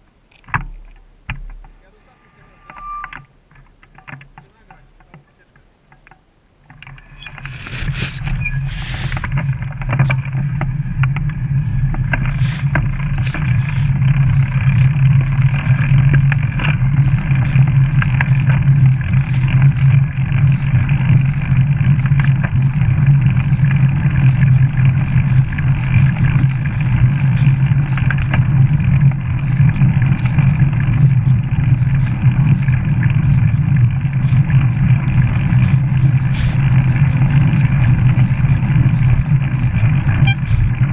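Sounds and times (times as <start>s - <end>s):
bicycle tyres on pavement: 0.0s - 40.9s
wind: 0.0s - 40.9s
bicycle clicks and rattles: 3.5s - 40.9s.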